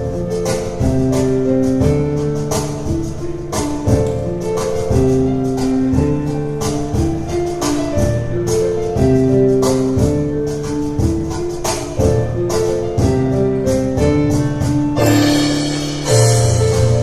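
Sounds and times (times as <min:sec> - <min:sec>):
hand percussion quick beat: 0:00.0 - 0:17.0
piano chords and melody: 0:00.0 - 0:17.0.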